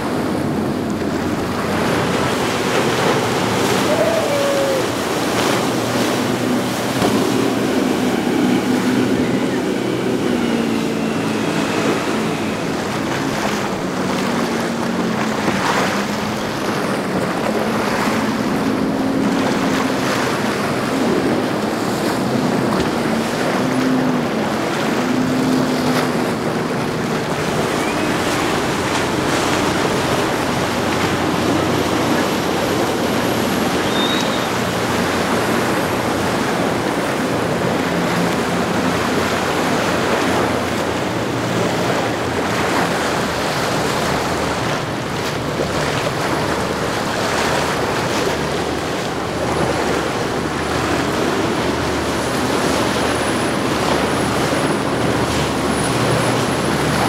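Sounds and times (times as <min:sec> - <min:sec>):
powerboat engines running: 0:00.0 - 0:57.0
water rushing from wake and spray: 0:00.0 - 0:57.0.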